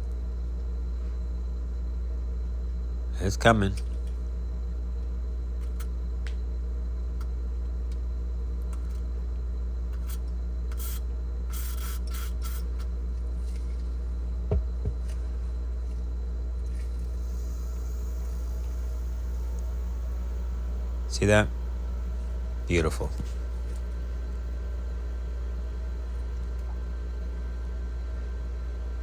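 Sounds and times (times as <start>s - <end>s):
refrigerator humming: 0.0s - 29.0s.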